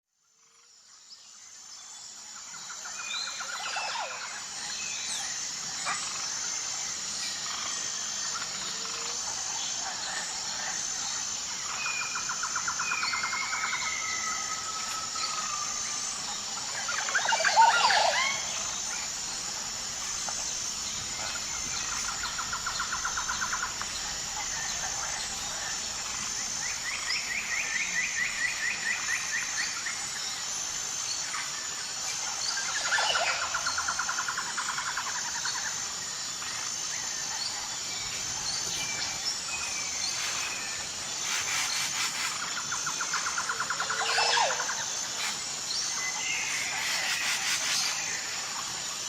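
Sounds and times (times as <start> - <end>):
high insect drone: 0.2 - 49.0.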